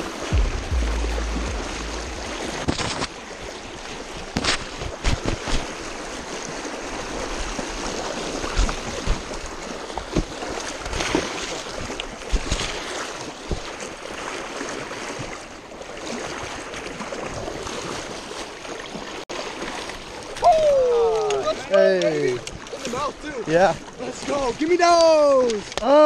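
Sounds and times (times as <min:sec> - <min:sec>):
river water rushing: 0:00.0 - 0:24.8
sharp water splashes: 0:00.0 - 0:26.0.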